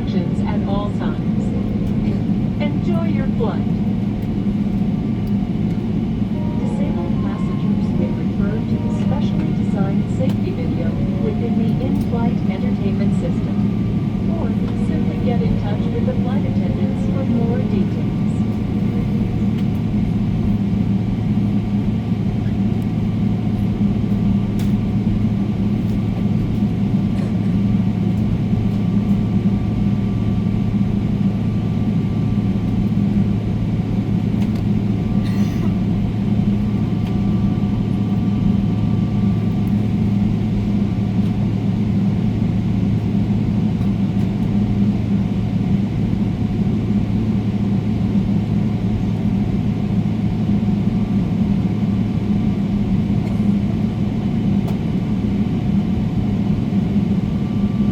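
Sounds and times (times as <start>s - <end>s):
airplane cabin hum: 0.0s - 57.9s.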